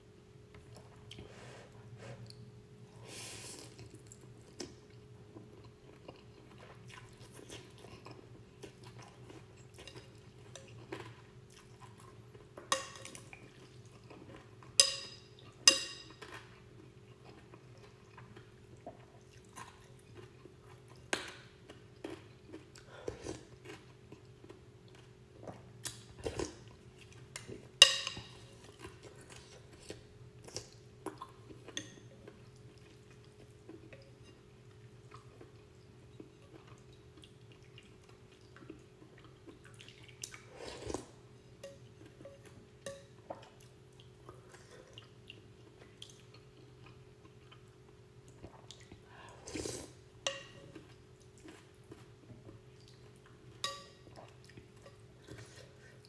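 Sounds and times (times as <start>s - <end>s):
soft chewing: 0.5s - 56.0s.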